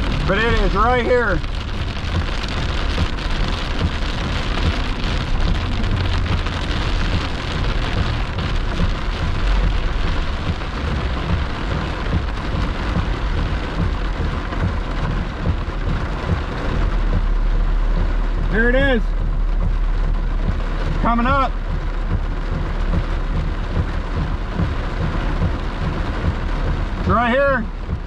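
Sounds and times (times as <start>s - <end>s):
deep uneven rumble: 0.0s - 28.0s
heavy rain on car windshield: 0.0s - 28.0s.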